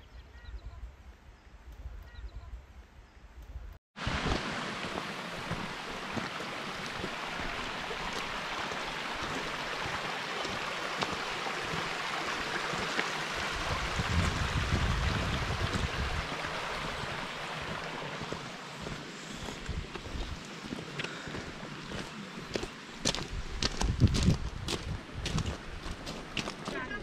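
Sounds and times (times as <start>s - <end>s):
mountain stream rushing over stones: 4.0s - 27.0s.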